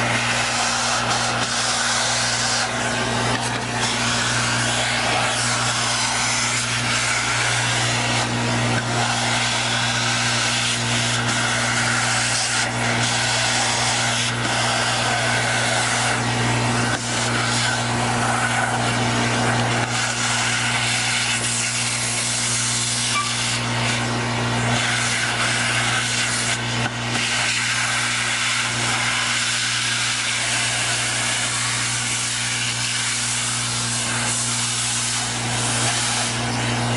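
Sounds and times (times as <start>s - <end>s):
industrial vacuum running: 0.0s - 36.9s.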